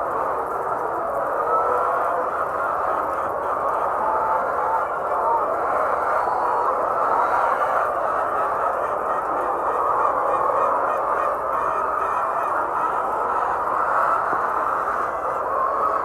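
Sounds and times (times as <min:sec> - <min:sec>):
hens clucking and cackling: 0:00.0 - 0:16.0.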